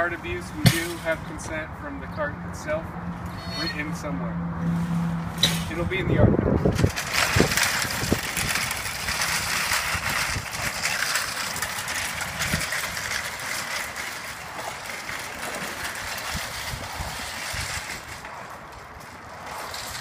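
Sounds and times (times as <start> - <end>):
shopping cart rattling over asphalt: 0.0 - 2.7, 5.3 - 20.0.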